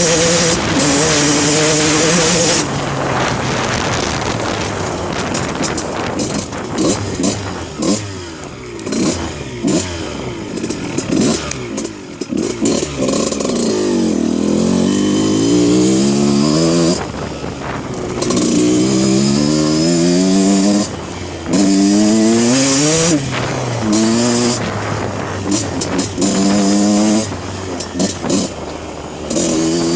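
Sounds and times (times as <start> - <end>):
two-stroke motorcycle engine revving: 0.0 - 29.9.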